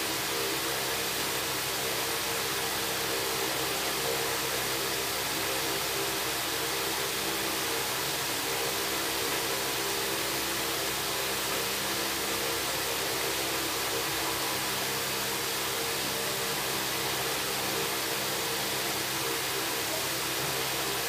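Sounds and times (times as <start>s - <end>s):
electric fan running: 0.0s - 21.0s.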